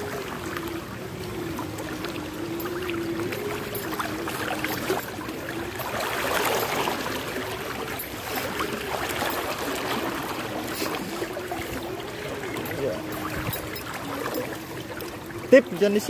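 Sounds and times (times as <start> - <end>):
floodwater sloshing and splashing: 0.0 - 16.0.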